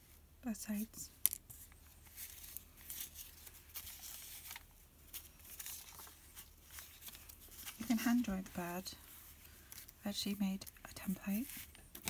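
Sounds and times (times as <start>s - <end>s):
hands crinkling paper: 1.6s - 12.0s.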